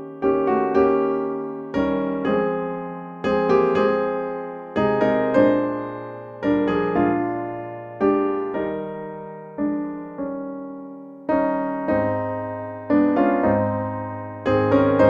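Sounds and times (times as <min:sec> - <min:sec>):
piano playing slow hymn: 0:00.0 - 0:15.0.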